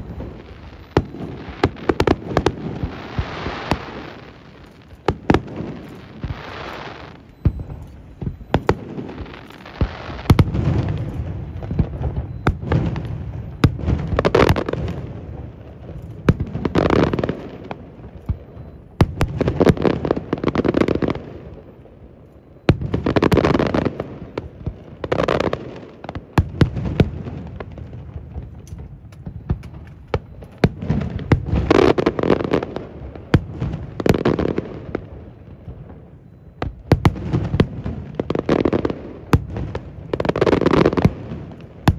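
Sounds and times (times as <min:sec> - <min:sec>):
fireworks booming: 0:00.0 - 0:22.0, 0:22.6 - 0:41.9
fireworks cracking: 0:00.0 - 0:41.9.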